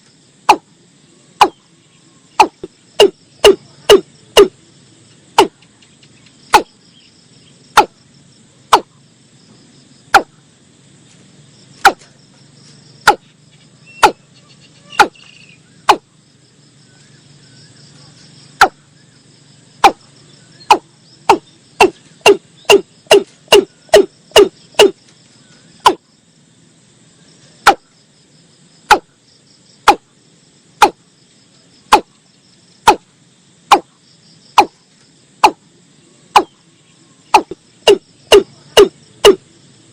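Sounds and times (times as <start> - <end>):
faint insect buzz: 0.0 - 39.9.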